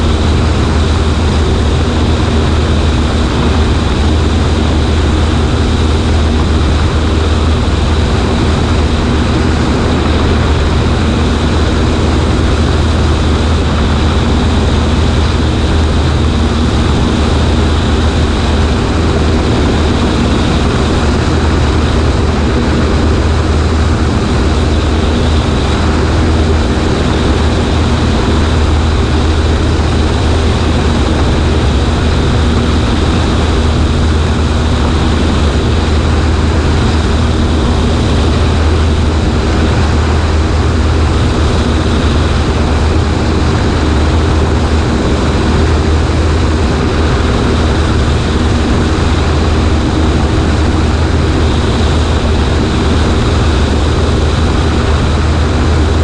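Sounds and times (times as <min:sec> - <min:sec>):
airplane engine and propeller drone: 0:00.0 - 0:56.0
wind rushing over microphone: 0:00.0 - 0:56.0.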